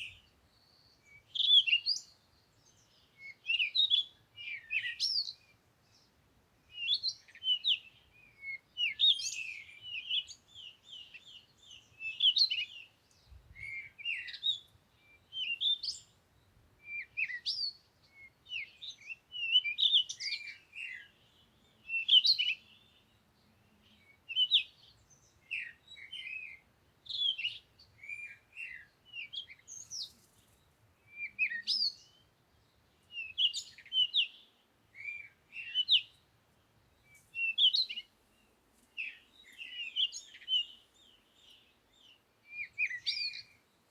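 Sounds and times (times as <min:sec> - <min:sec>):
small songbird chirping: 0:00.0 - 0:43.9.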